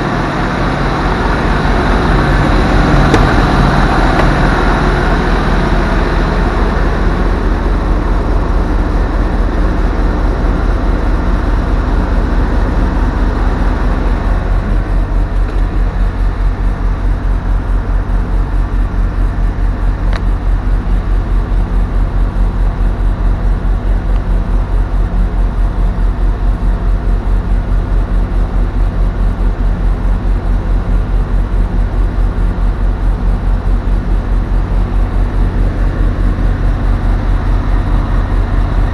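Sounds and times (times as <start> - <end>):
diesel truck engine pulsing: 0.0 - 38.9.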